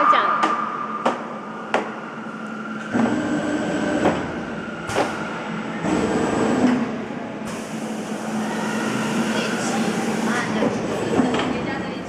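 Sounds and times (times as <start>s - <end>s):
factory machinery running: 0.0s - 12.0s.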